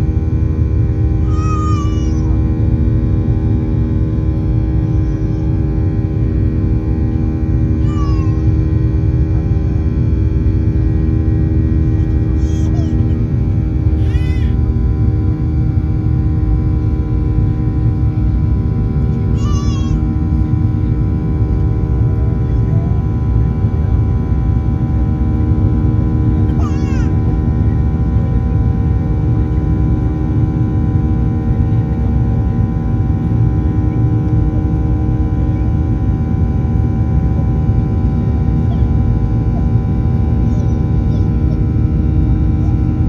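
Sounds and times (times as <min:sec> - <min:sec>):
airliner cabin engine drone: 0:00.0 - 0:43.0.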